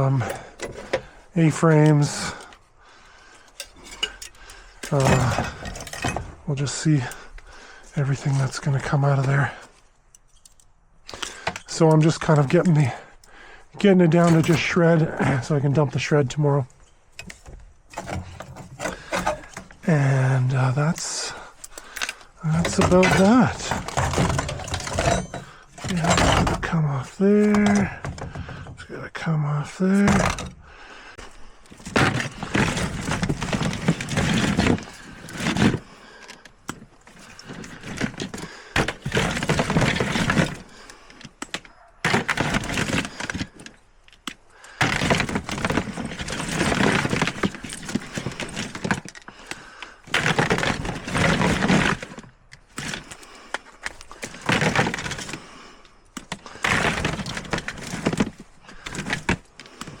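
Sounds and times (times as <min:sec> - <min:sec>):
scrap breaking and clattering: 0:03.5 - 0:13.1, 0:13.8 - 0:28.9, 0:29.7 - 1:00.0.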